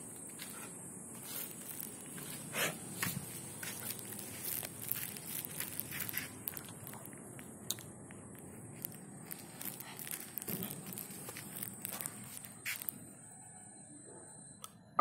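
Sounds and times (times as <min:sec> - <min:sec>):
steady high hiss: 0:00.0 - 0:14.6
footsteps crunching on dirt: 0:00.2 - 0:13.0.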